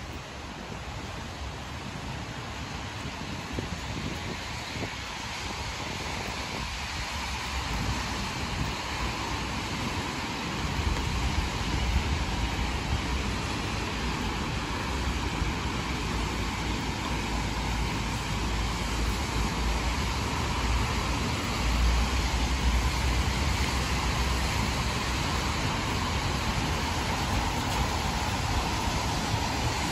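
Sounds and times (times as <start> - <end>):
car traffic on wet road: 0.0 - 29.9.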